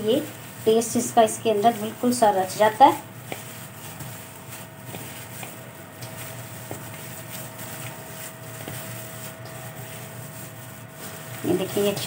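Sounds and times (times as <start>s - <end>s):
gloved hand mixing wet chicken: 0.0s - 12.0s.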